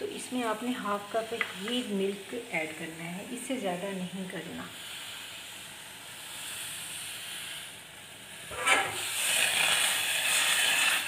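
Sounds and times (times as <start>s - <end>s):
water boiling in a saucepan: 0.0s - 11.0s.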